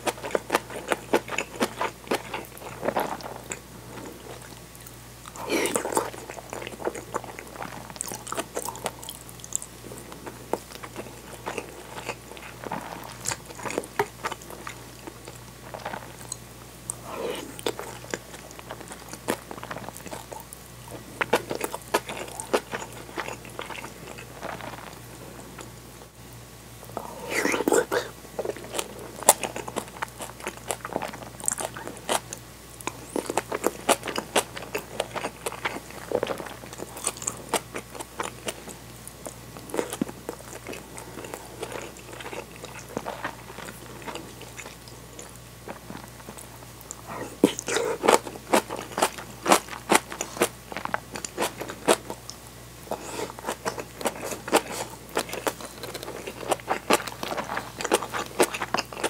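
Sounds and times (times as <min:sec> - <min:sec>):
crunchy chewing: 0:00.0 - 0:25.8, 0:26.8 - 0:59.0.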